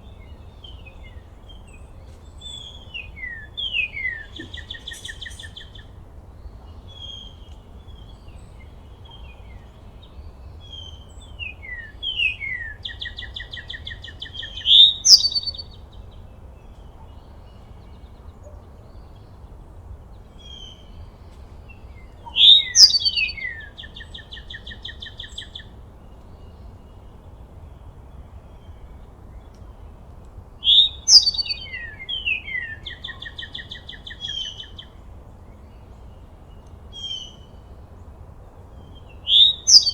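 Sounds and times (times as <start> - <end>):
songbird singing trill: 0.0 - 39.9.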